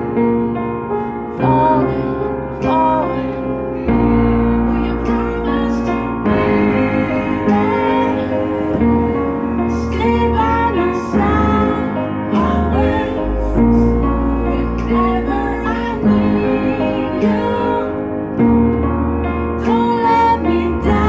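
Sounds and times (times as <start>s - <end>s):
slow piano ballad: 0.0s - 21.0s
woman singing: 1.3s - 18.2s, 19.6s - 21.0s.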